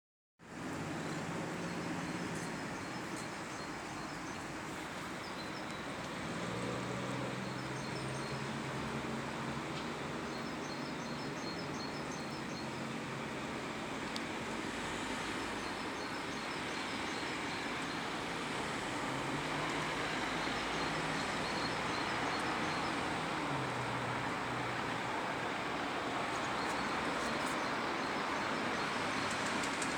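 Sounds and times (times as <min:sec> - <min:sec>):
vehicle rumble and hiss: 0:00.5 - 0:29.9.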